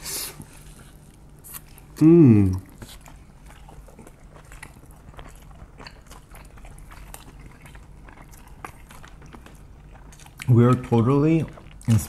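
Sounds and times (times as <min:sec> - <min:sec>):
chewing crisp tacos: 0:00.0 - 0:12.0.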